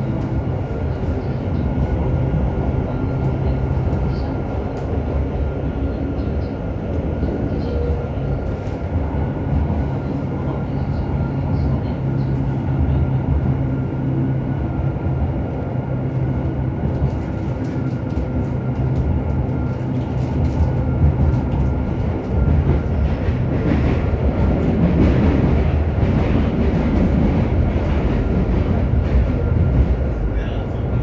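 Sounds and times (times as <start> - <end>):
wheels rumbling and clicking on rails: 0.0 - 31.0.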